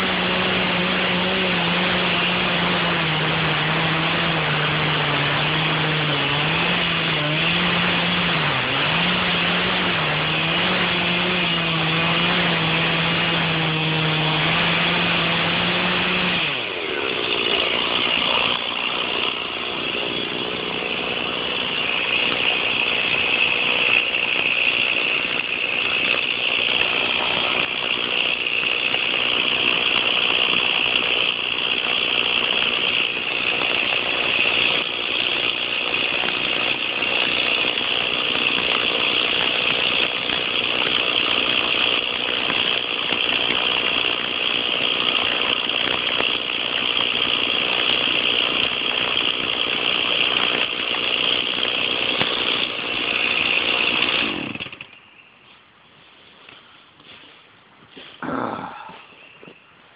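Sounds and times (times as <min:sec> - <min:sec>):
chainsaw running: 0:00.0 - 0:55.2.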